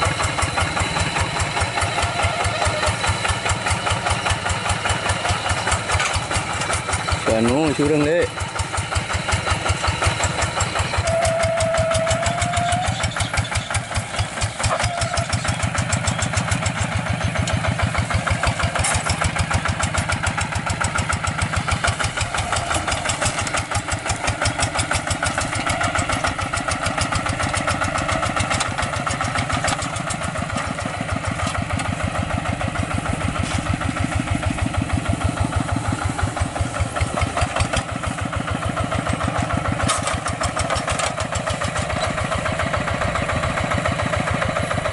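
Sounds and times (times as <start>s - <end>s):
diesel engine chugging: 0.0s - 44.9s.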